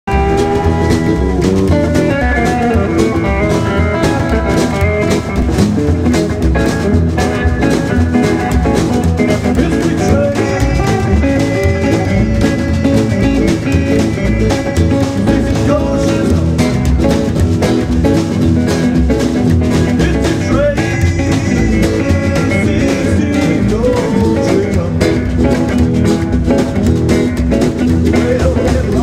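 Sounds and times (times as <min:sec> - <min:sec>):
acoustic guitar: 0:00.0 - 0:29.0
electric guitar lead: 0:00.0 - 0:29.0
upright bass: 0:00.0 - 0:29.0
snare drum beat: 0:00.1 - 0:29.0.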